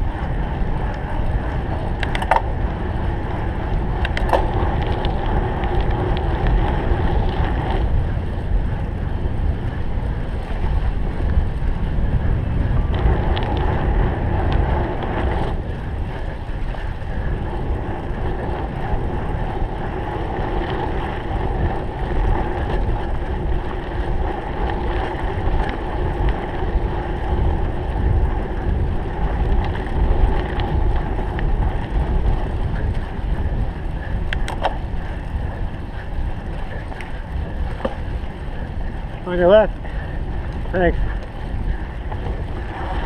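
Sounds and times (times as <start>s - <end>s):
bike riding noise: 0.0s - 43.0s
wind buffeting microphone: 0.0s - 43.0s.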